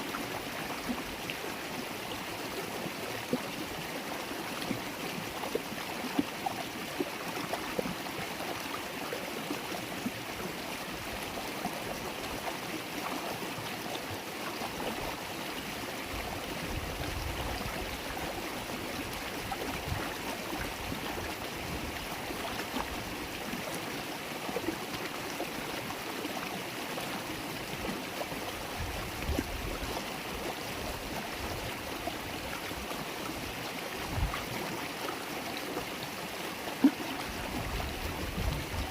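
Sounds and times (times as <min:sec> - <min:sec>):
river water babbling over stones: 0:00.0 - 0:38.9.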